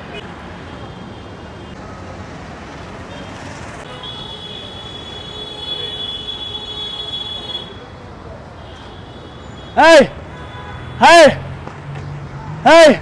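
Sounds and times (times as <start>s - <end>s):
street din: 0.0s - 13.0s.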